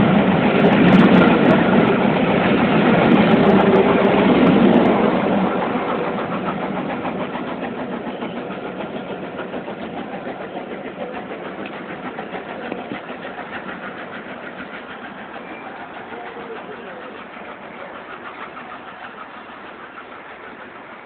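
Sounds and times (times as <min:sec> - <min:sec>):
train coaches clattering past: 0:00.0 - 0:21.0.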